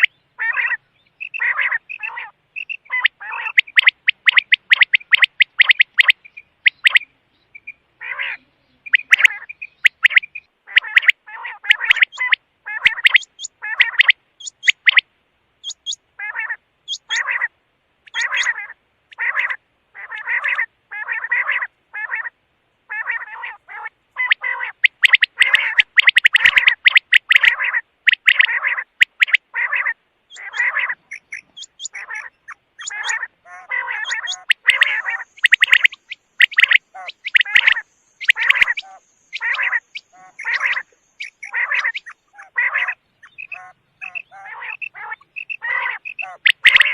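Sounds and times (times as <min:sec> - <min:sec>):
quail calling: 0:00.0 - 0:46.9.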